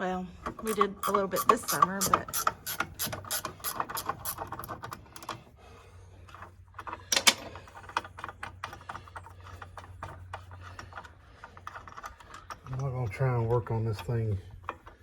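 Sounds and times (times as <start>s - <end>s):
hand tools clicking and clattering: 0.4s - 5.5s, 6.2s - 15.0s.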